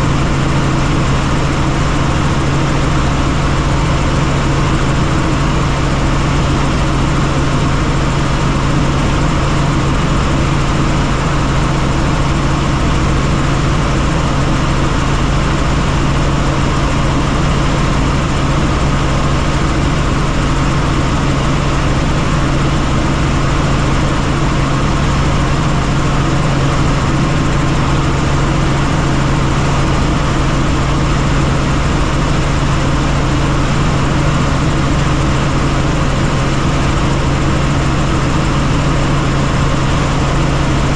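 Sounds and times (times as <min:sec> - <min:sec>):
helicopter rotor and engine drone: 0:00.0 - 0:40.9.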